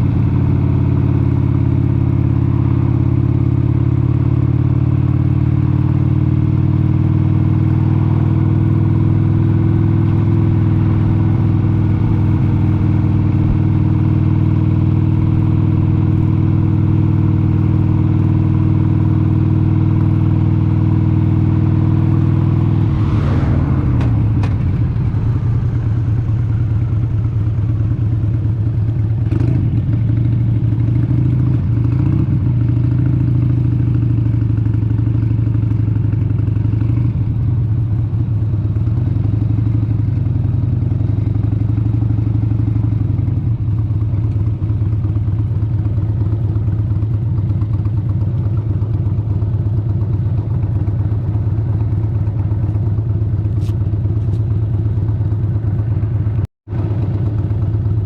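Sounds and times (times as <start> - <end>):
motorcycle engine running on road: 0.0 - 58.0.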